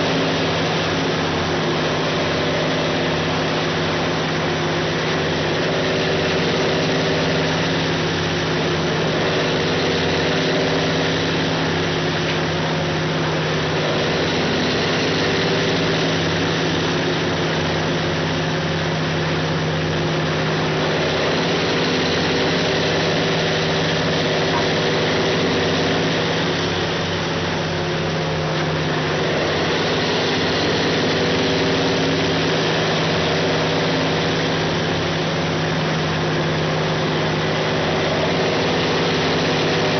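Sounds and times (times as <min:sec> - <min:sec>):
diesel engine droning: 0:00.0 - 0:39.9
tub grinder grinding wood: 0:00.0 - 0:39.9.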